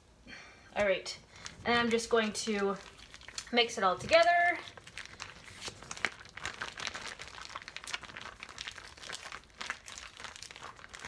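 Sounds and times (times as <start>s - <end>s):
plastic bag crinkling: 0.8s - 11.0s.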